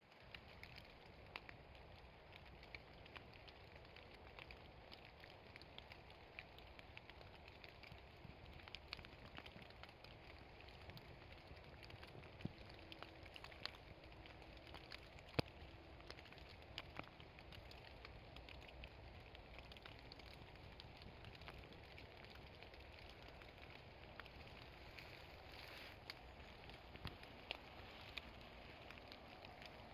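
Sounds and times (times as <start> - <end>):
low steady rain hiss: 0.0 - 29.9
rain dripping and pattering: 0.0 - 29.9.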